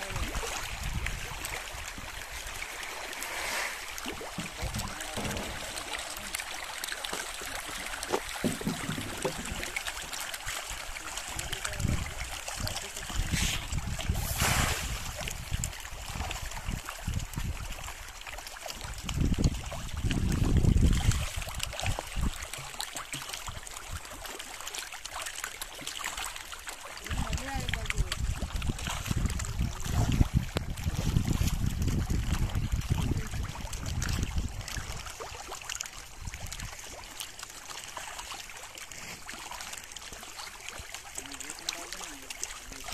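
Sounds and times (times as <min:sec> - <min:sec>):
water splashing and trickling: 0:00.0 - 0:42.9.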